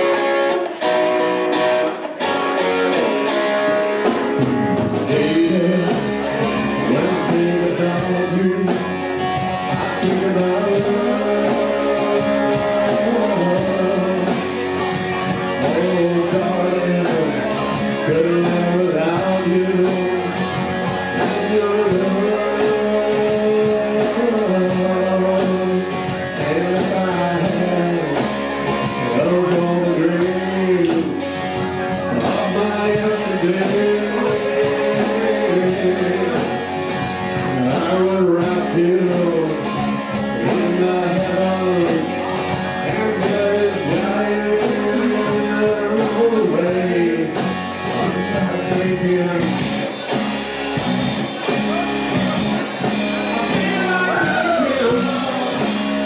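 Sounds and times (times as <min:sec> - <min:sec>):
person singing: 0:00.0 - 0:50.4, 0:51.3 - 0:56.0
drums: 0:00.0 - 0:56.0
guitar: 0:00.0 - 0:56.0.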